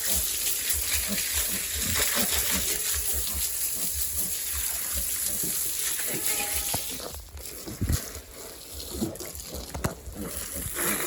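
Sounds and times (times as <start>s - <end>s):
water spraying and splashing: 0.0s - 11.0s.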